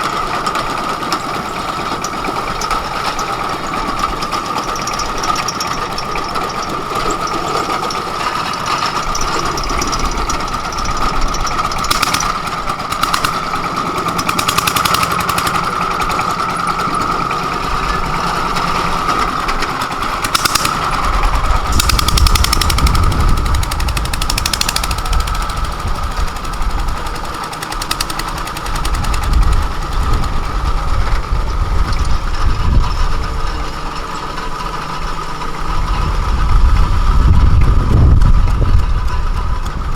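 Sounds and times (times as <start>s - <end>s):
engine whine: 0.0s - 39.9s
deep fluctuating engine rumble: 2.4s - 39.9s.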